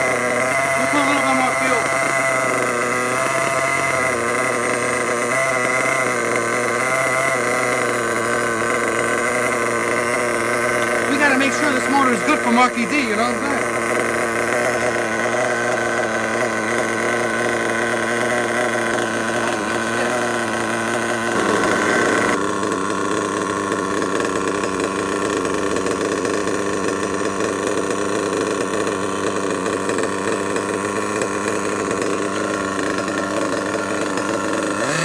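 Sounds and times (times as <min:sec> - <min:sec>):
model engine idling: 0:00.0 - 0:35.0.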